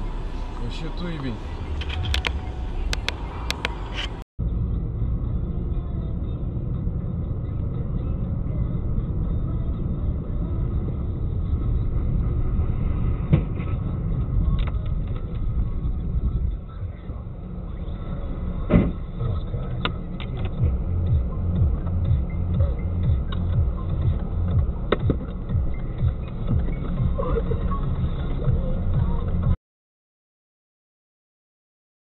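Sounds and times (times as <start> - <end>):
car driving rumble: 0.0 - 29.6.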